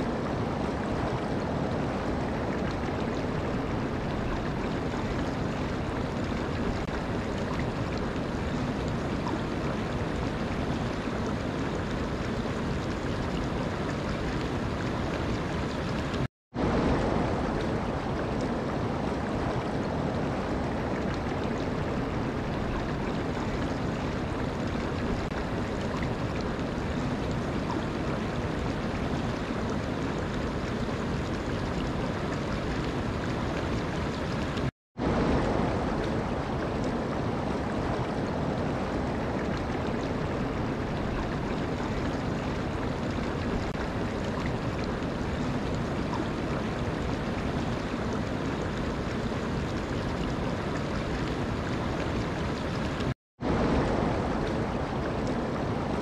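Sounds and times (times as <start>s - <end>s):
shallow water flowing over stones: 0.0s - 56.0s.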